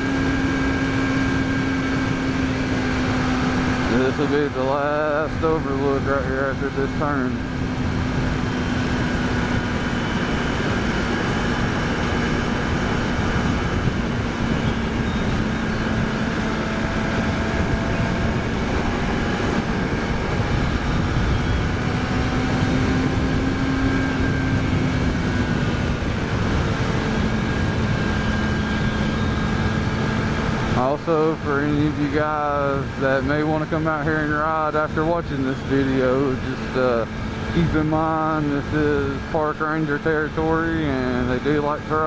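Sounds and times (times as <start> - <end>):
motorcycle engine cruising: 0.0 - 42.0
wind rush: 0.0 - 42.0.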